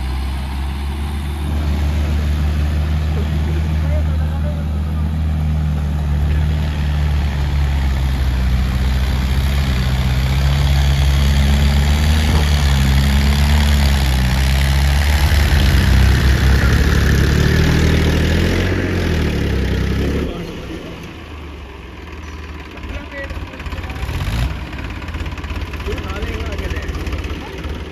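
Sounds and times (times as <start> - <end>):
diesel tractor engines running: 0.0 - 27.9.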